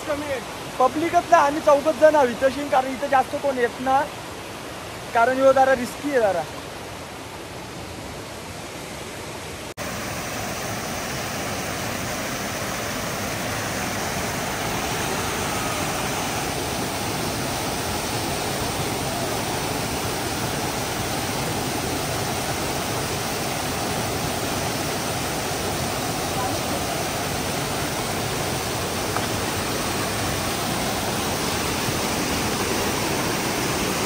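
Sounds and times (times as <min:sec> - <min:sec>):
waterfall rushing water: 0:00.0 - 0:34.0.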